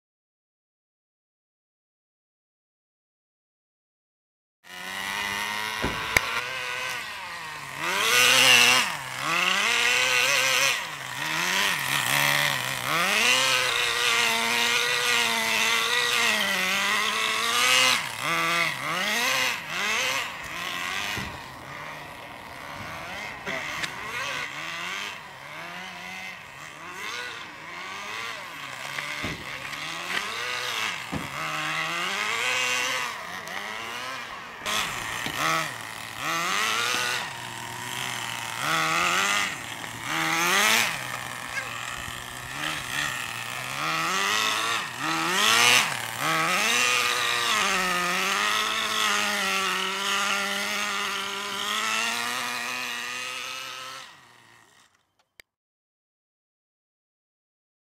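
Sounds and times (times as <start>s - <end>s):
small nitro engine revving: 4.7s - 55.1s.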